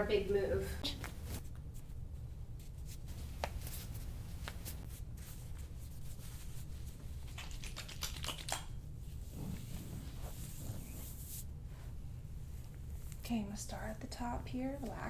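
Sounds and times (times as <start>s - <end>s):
clothing rustling: 0.0s - 7.7s, 8.7s - 13.4s
low room hum: 0.0s - 15.0s.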